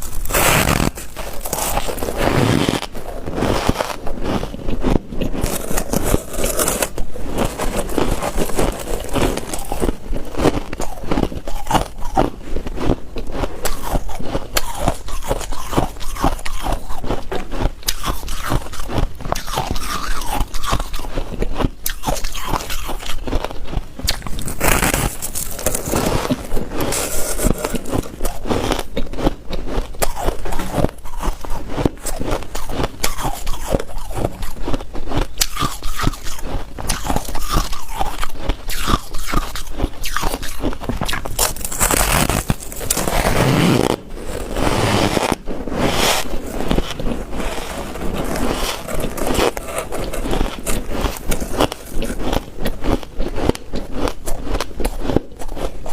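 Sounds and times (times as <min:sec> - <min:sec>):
ice cubes crunching in mouth: 0:00.0 - 0:55.9.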